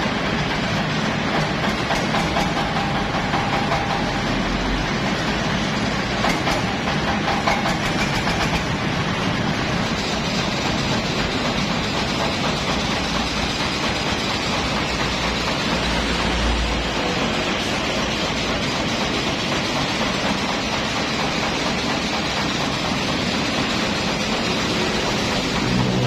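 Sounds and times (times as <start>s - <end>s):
rice milling machine running: 0.0s - 26.0s.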